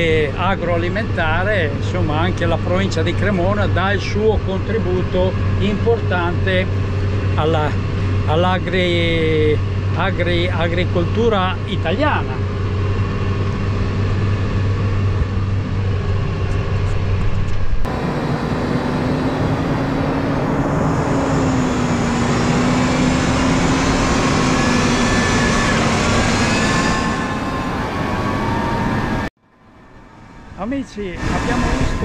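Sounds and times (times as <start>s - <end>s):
tractor engine drone: 0.0s - 32.0s.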